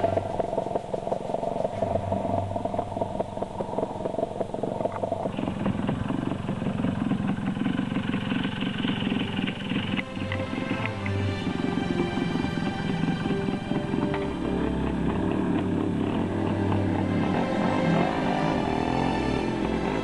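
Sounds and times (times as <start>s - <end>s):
two-stroke engine idling: 0.0s - 20.0s.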